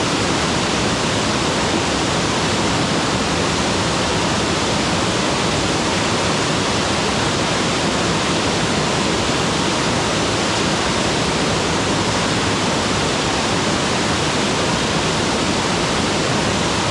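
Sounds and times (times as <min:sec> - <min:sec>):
waterfall roaring: 0:00.0 - 0:16.9.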